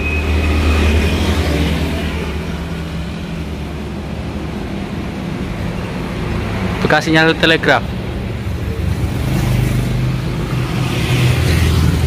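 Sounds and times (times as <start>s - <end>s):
rush of traffic: 0.0s - 12.0s.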